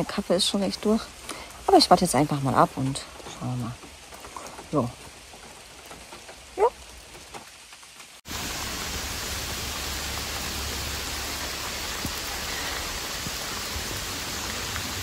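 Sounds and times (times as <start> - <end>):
heavy rain falling in a forest: 0.0 - 15.0.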